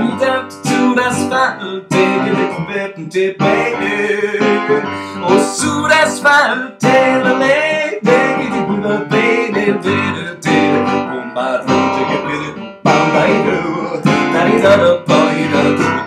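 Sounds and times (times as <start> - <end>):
digital piano chords: 0.0 - 16.0.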